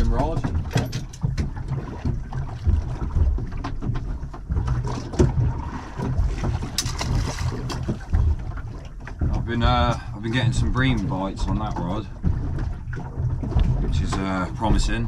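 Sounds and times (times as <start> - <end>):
knocks and clicks of gear: 0.0 - 10.1, 10.8 - 15.0
wind buffeting microphone: 0.0 - 15.0.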